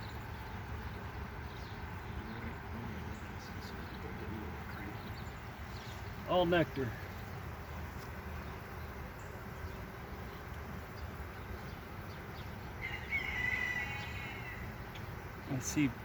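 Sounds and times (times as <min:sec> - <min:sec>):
honey bees humming: 0:00.0 - 0:16.0.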